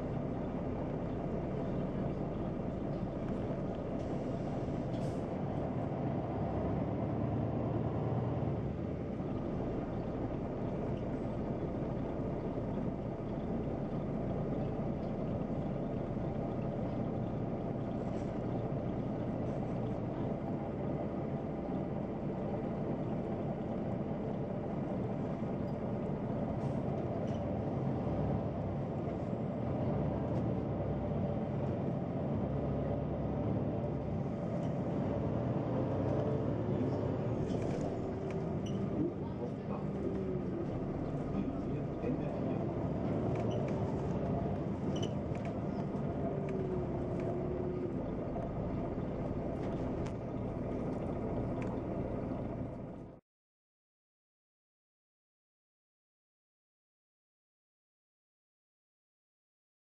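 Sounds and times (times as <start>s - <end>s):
bus diesel engine running: 0.0s - 53.2s.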